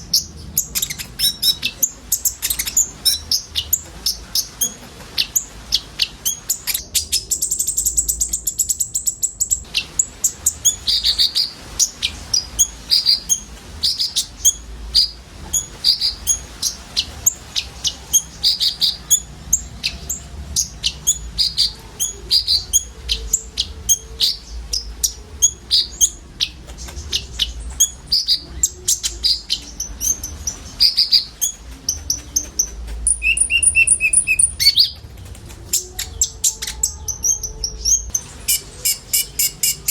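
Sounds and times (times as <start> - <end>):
birds chirping: 0.0 - 39.9
high bird trill: 0.0 - 39.9.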